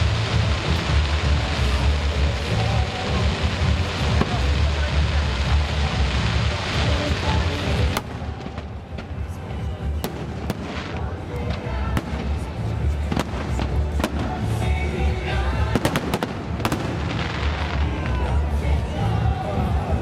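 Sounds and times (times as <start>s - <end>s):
fireworks bangs: 0.0s - 19.7s
loud music: 0.0s - 20.0s.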